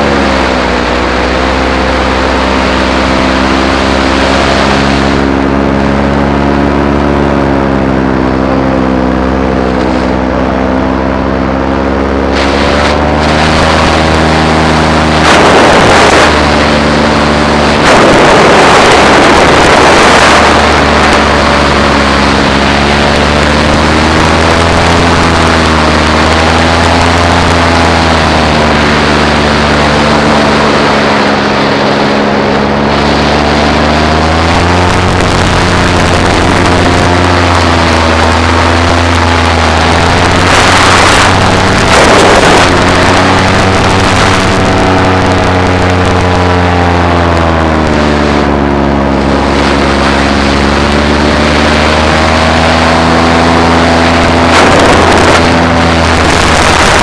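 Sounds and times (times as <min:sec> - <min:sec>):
paramotor engine and propeller: 0:00.0 - 0:57.0
wind rushing over microphone: 0:00.0 - 0:57.0.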